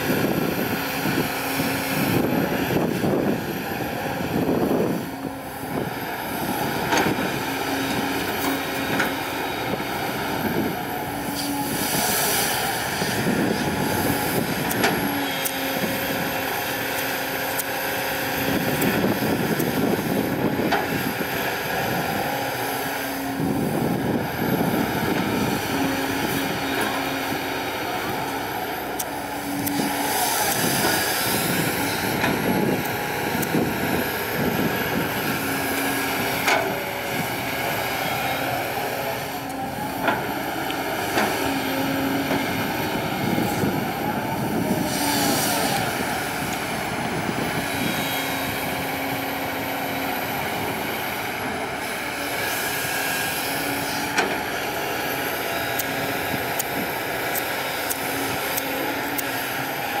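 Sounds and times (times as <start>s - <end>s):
excavator diesel engine: 0.0s - 60.0s
hydraulic whine: 0.0s - 60.0s.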